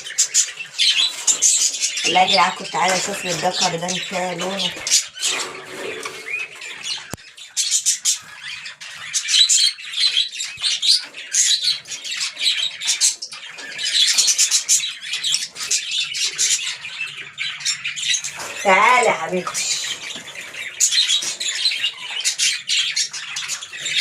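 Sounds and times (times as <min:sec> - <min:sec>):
small birds chirping and squawking: 0:00.0 - 0:24.0.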